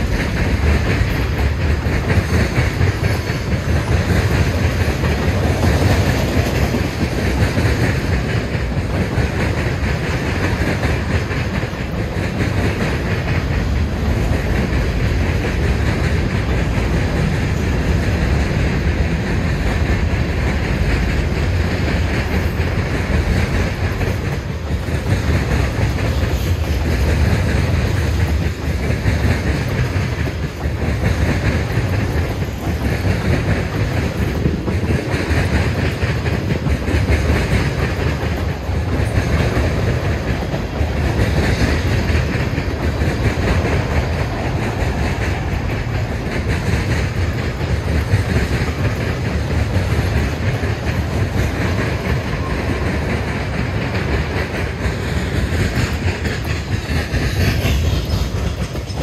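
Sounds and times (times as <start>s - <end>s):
wheel-on-rail rumble: 0.0s - 59.0s
wheels clacking over rail joints: 0.0s - 59.0s.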